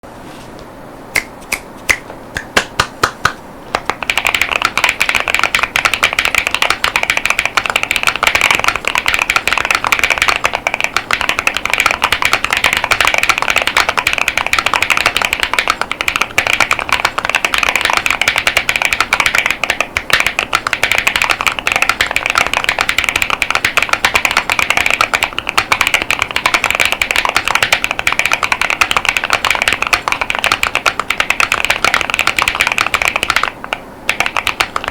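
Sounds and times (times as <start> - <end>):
mechanical keyboard typing: 3.8 - 34.9.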